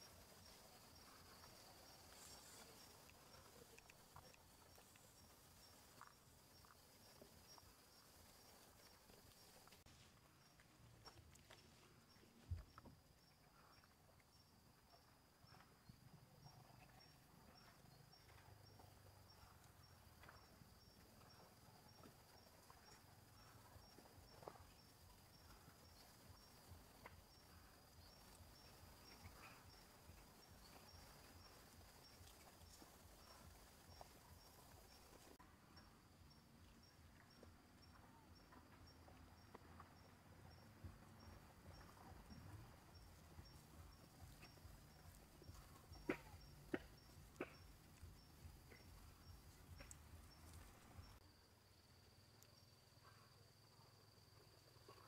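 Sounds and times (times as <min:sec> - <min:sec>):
faint insect chirp: 0:00.0 - 0:55.0
insects buzzing: 0:00.0 - 0:55.0
small ticks and rustles: 0:00.0 - 0:55.0.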